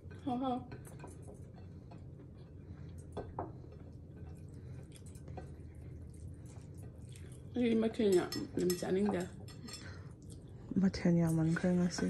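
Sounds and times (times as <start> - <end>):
faint chewing: 0.0 - 12.0
low room hum: 0.0 - 12.0.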